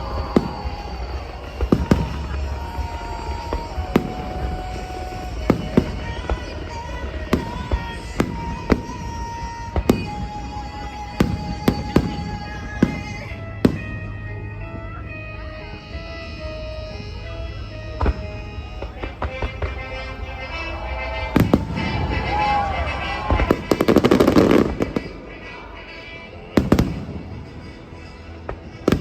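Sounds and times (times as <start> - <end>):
fireworks bangs: 0.0 - 14.3, 18.0 - 29.0
music playing: 0.0 - 29.0.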